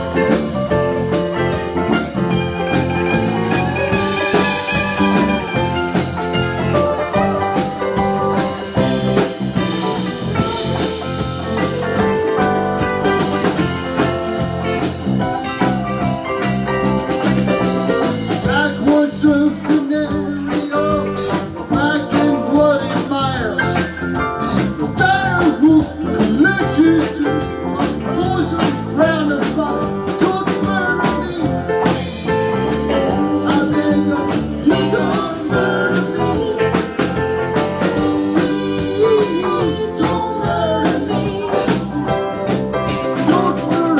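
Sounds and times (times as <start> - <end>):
bass guitar: 0.0 - 43.9
bending lead guitar melody: 0.0 - 43.9
drum kit: 0.0 - 43.9
electric guitars: 0.0 - 43.9
keyboard: 0.0 - 43.9.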